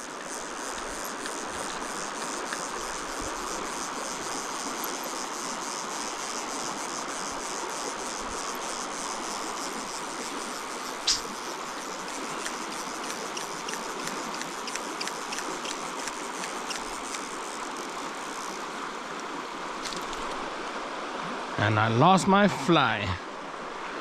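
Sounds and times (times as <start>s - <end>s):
insects chirping: 0.0s - 23.6s
stream water flowing: 0.0s - 24.0s.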